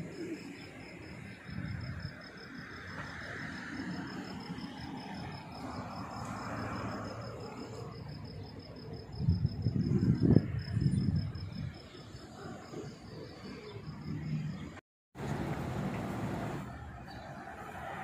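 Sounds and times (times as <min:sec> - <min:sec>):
insect chirping: 0:00.0 - 0:14.7.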